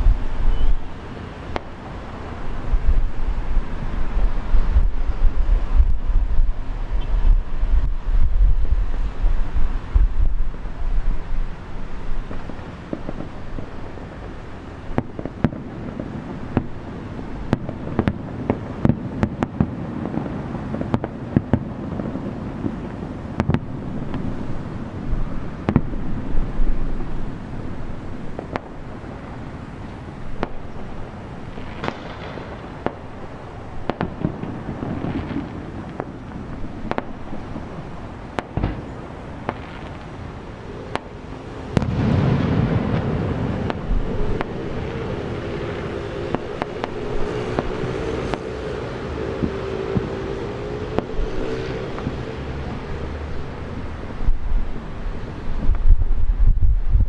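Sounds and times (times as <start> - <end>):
fireworks bursting: 0.0 - 56.9
distant fireworks rumble: 0.0 - 57.0.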